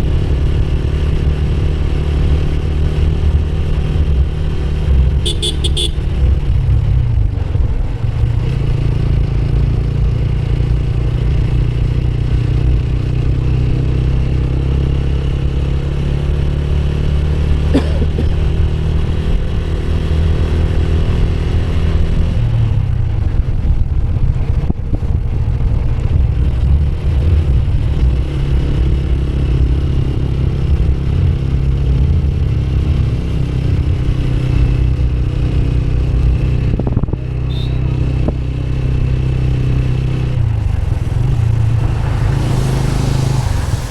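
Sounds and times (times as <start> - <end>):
motorcycle engine running: 0.0 - 21.4, 22.0 - 43.0.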